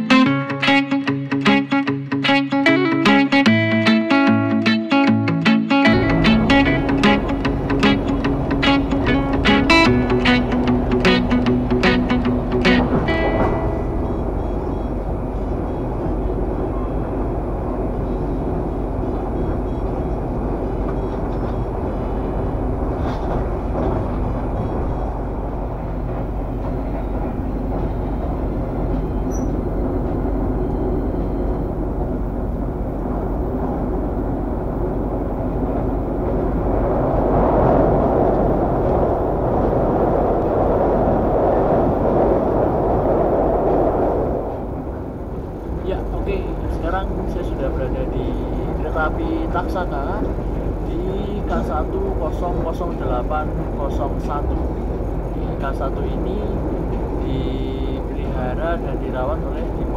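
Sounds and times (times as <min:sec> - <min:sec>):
train crossing steel bridge: 0:00.0 - 0:59.9
train rumbling at speed: 0:05.8 - 0:59.9.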